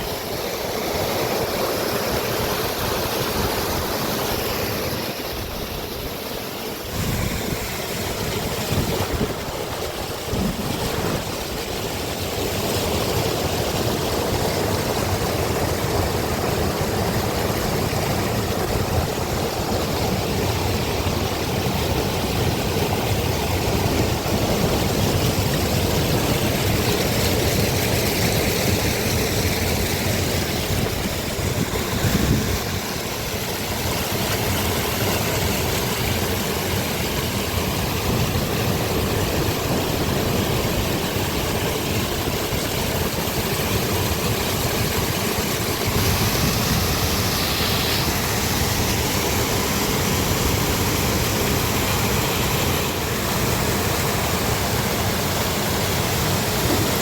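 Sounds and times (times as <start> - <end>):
heavy rain: 0.0 - 57.0
rushing floodwater: 0.0 - 57.0.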